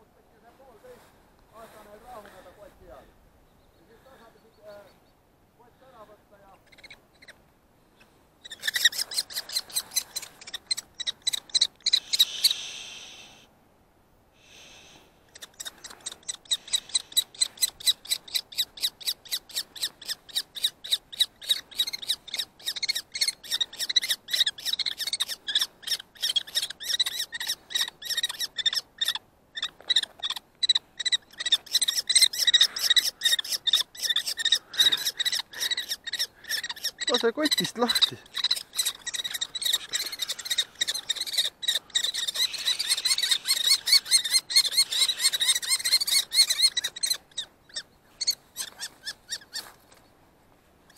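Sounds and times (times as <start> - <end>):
kestrel shrill calls: 6.6 - 7.4, 8.4 - 13.4, 14.5 - 49.7.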